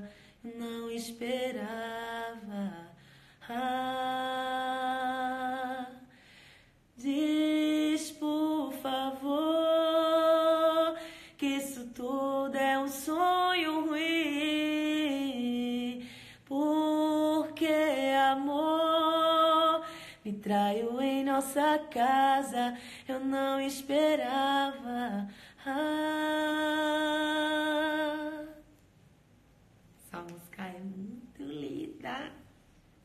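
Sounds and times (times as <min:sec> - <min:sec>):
woman singing unaccompanied: 0:00.0 - 0:06.1, 0:07.0 - 0:28.7.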